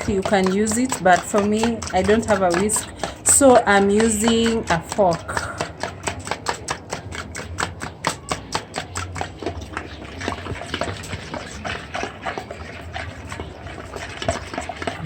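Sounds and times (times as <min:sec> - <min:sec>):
fork beating eggs in bowl: 0:00.0 - 0:15.0.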